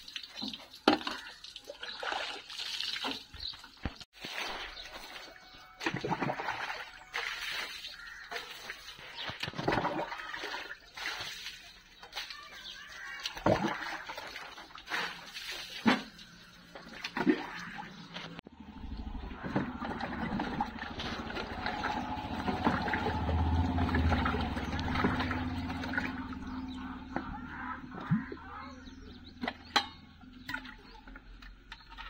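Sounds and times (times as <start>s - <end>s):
water sloshing in plastic tub: 0.0s - 18.4s, 19.2s - 28.5s
water splashing on concrete: 0.0s - 18.4s, 19.4s - 28.5s.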